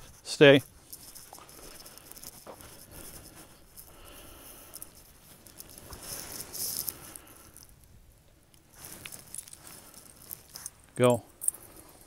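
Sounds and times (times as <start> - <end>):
rustling in dry grass: 0.0 - 7.8, 8.6 - 10.9.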